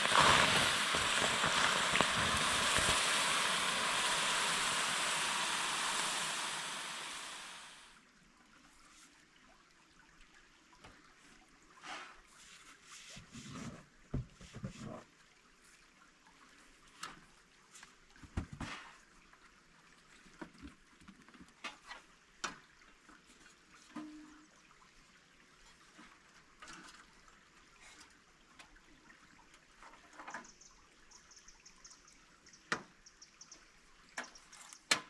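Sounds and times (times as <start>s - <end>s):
flowing stream: 0.0s - 14.0s, 14.8s - 35.0s.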